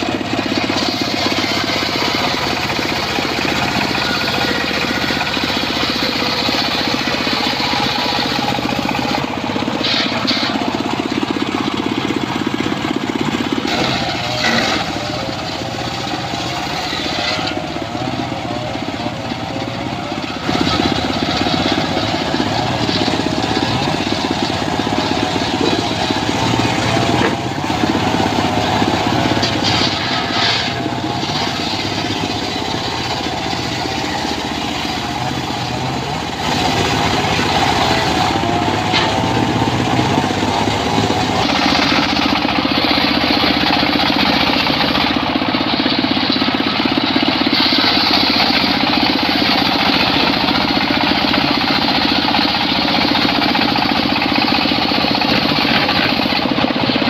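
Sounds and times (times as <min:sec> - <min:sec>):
circular saw running: 0:00.0 - 0:57.0
saw blade cutting wood: 0:00.0 - 0:57.0.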